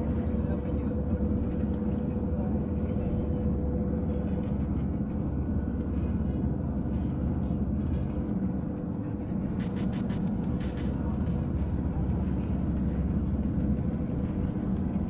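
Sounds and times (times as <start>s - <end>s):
faint steady hum: 0.0s - 15.0s
vehicle driving rumble: 0.0s - 15.0s.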